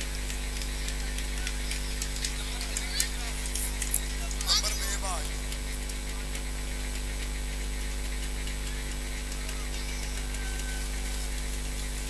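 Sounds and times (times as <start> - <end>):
electrical hum and buzz: 0.0 - 12.0.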